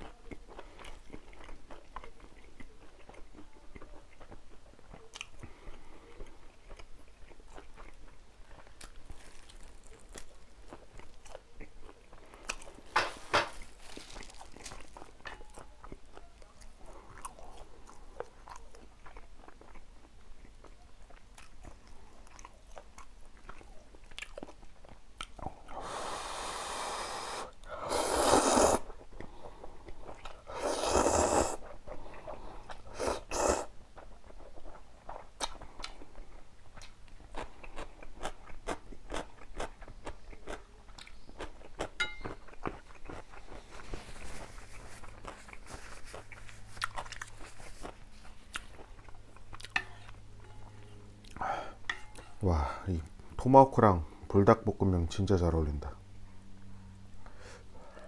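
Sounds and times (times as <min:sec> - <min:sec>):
person chewing: 0:00.0 - 0:52.3.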